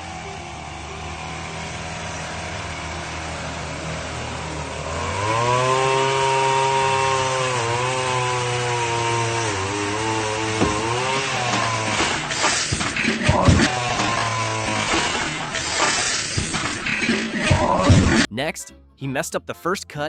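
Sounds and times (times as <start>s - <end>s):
chainsaw revving: 0.0s - 18.3s.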